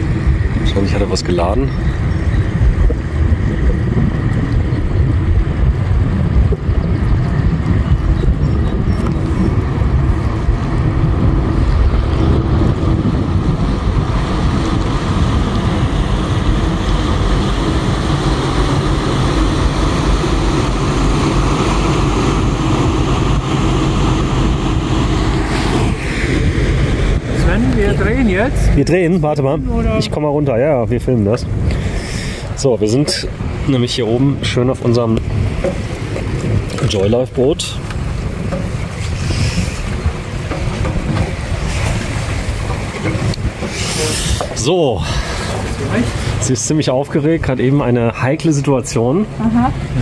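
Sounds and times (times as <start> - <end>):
propeller wash churning water: 0.0 - 50.0
ship diesel engine drone: 0.0 - 50.0
wind buffeting microphone: 0.0 - 50.0.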